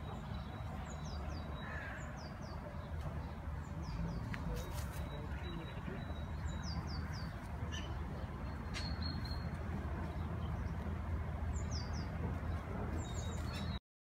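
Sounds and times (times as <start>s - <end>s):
birds chirping: 0.0s - 13.8s.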